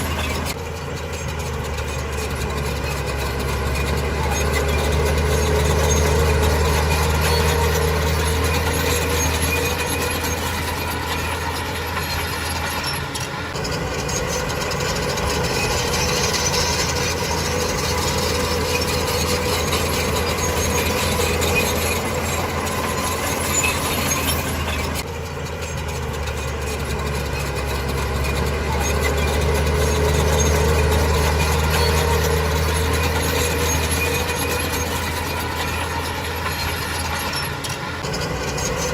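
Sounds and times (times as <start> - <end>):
heavy diesel engine humming: 0.0 - 38.9.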